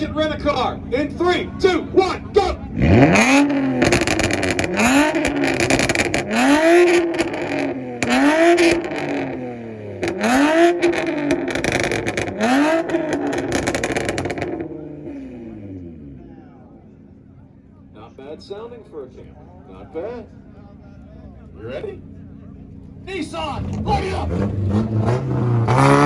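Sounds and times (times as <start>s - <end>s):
car engine revving: 0.0s - 17.2s, 21.4s - 26.0s
exhaust popping: 0.0s - 18.2s, 19.1s - 26.0s.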